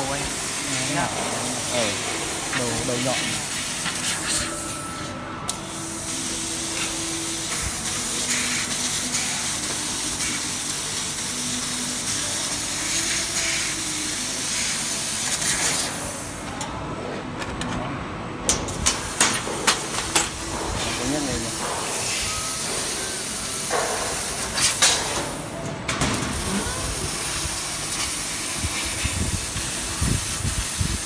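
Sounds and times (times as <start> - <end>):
laser cutter hissing: 0.0 - 16.5, 18.7 - 25.5, 26.2 - 31.0.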